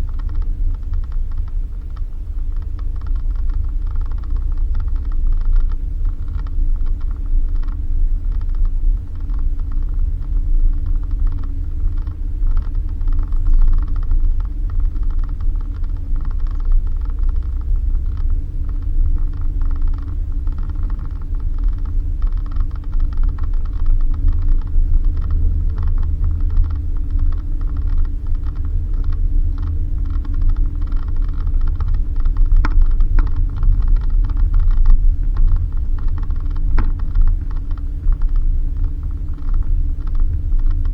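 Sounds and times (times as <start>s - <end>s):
car engine and road rumble: 0.0s - 40.9s
clicks and rattles from bumps: 0.0s - 40.9s.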